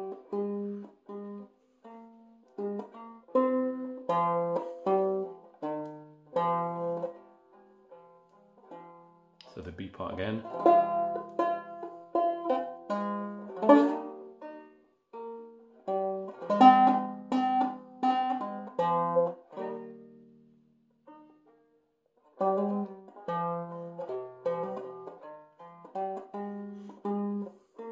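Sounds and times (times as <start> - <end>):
banjo picking minor melody: 0.0 - 27.9.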